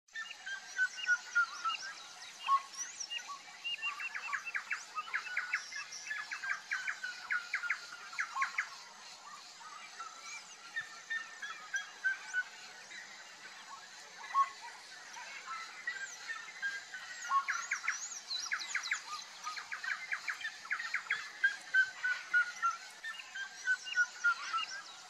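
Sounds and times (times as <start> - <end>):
falling whistled bird notes: 0.1 - 8.8, 9.6 - 13.0, 14.2 - 24.9
birds chipping: 0.1 - 25.0.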